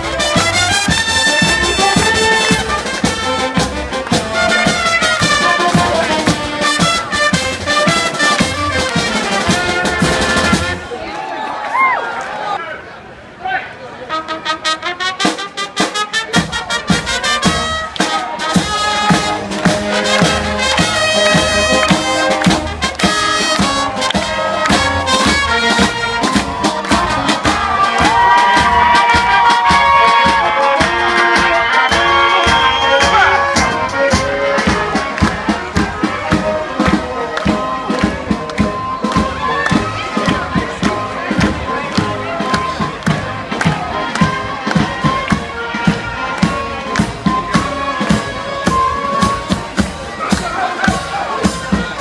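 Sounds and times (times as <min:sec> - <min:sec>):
brass band playing a march: 0:00.0 - 0:11.1, 0:14.0 - 0:52.0.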